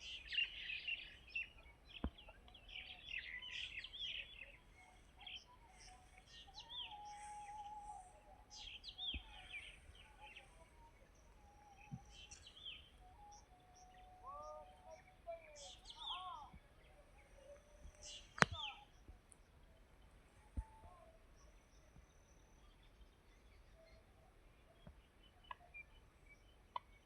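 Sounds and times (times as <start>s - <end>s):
birds chirping faintly: 0.0s - 27.0s.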